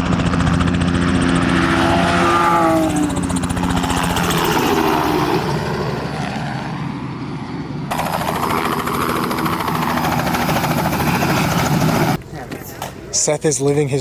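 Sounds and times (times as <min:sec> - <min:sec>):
helicopter rotor chopping: 0:00.0 - 0:12.2.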